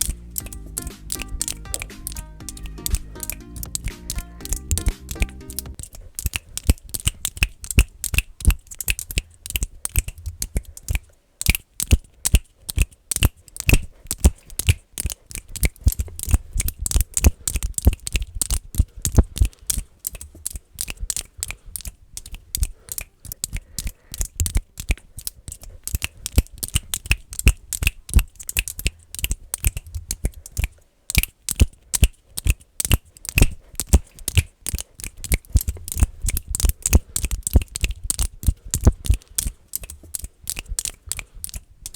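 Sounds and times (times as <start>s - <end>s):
rapid finger clicking: 0.0s - 41.9s.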